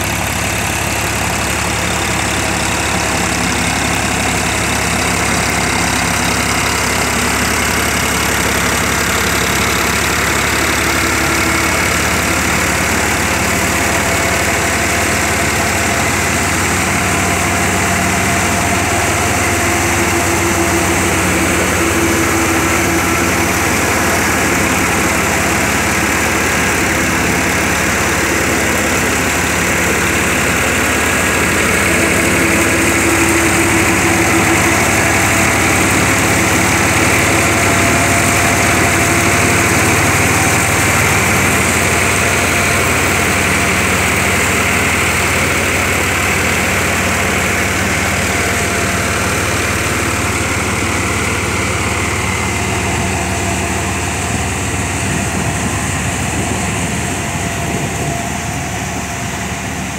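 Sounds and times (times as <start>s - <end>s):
tractor and reaper running: 0.0s - 59.9s.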